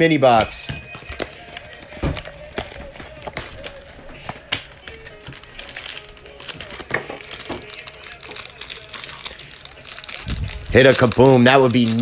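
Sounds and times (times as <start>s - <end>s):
faint music: 0.0s - 12.0s
plastic crinkling: 0.9s - 12.0s.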